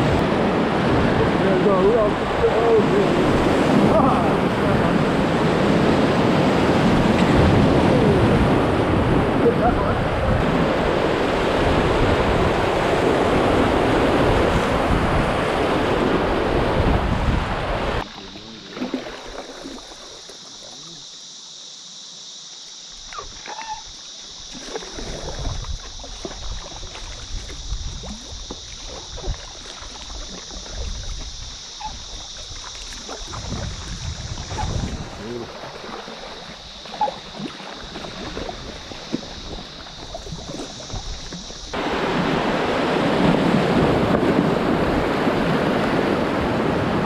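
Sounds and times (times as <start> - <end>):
whitewater rapid rushing: 0.0 - 21.1, 24.2 - 47.0
calm river hiss: 0.0 - 47.0
paddle splashes and drips: 0.0 - 47.0.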